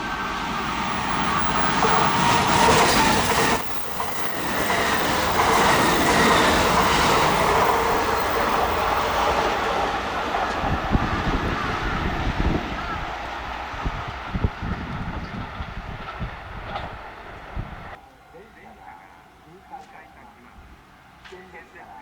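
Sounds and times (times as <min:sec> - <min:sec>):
electric train running past: 0:00.0 - 0:22.0
wheels rumbling on rail: 0:00.0 - 0:22.0.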